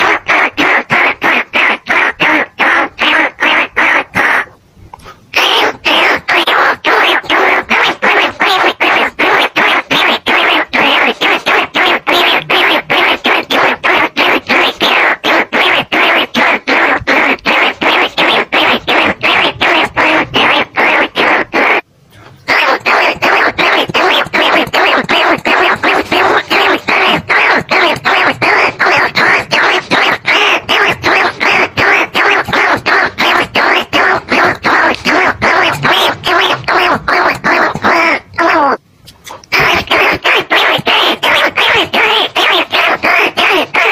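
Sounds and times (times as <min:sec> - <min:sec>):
rapid repeated squeaks: 0:00.0 - 0:43.9.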